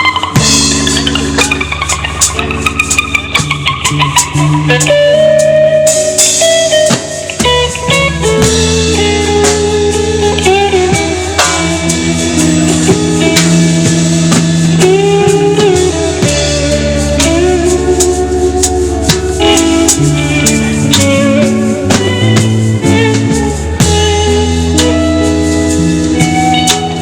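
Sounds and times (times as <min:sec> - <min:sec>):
bass guitar: 0:00.0 - 0:27.0
drum kit: 0:00.0 - 0:27.0
electric guitar: 0:00.0 - 0:27.0.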